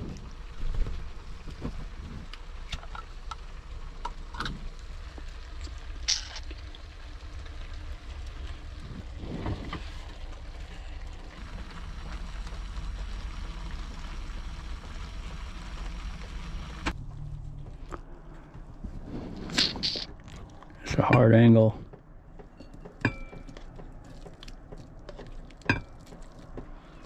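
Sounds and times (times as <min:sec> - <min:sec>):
steady low rumble: 0:00.0 - 0:22.4.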